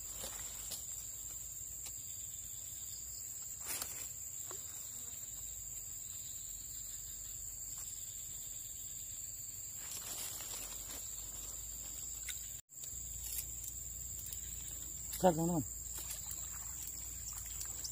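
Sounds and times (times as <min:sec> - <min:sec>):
high-pitched insect chirring: 0:00.2 - 0:17.9.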